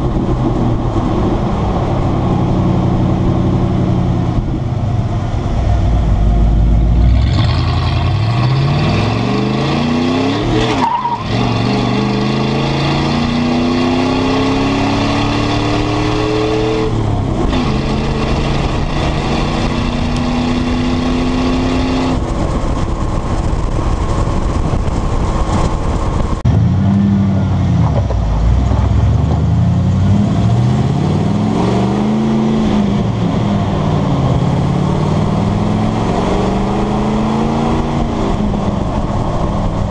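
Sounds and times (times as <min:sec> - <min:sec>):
truck engine exhaust shifting gears: 0:00.0 - 0:39.9.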